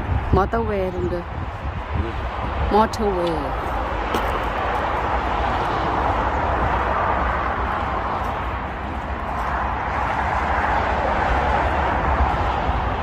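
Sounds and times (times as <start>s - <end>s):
motorway traffic roar: 0.0s - 13.0s.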